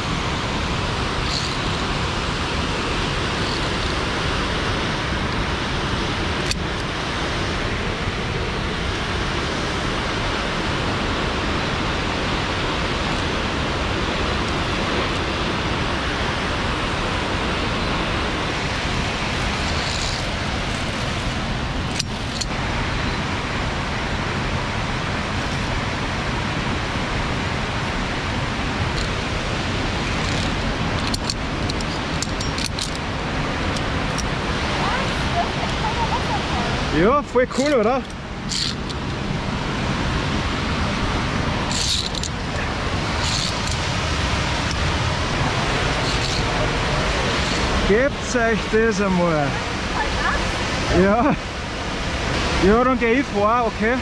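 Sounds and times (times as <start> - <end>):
waterfall roar: 0.0 - 54.0.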